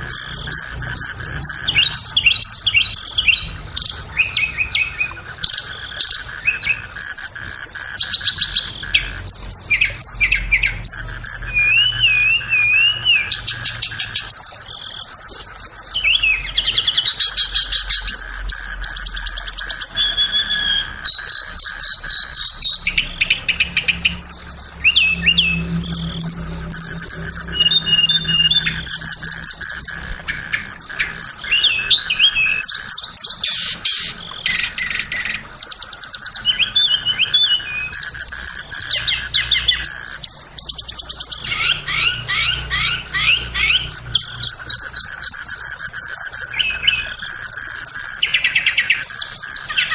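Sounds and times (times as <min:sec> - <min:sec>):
songbird trilling and whistling: 0:00.0 - 0:49.9.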